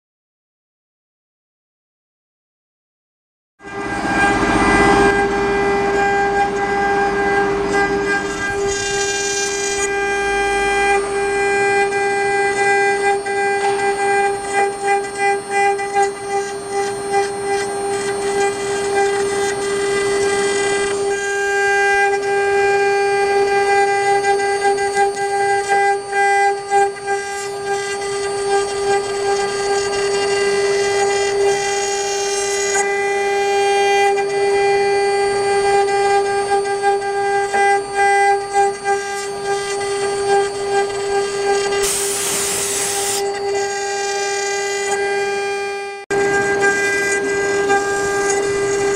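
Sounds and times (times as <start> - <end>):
rough wood cutting noise: 3.6 - 48.9
router spindle whining: 3.6 - 48.9.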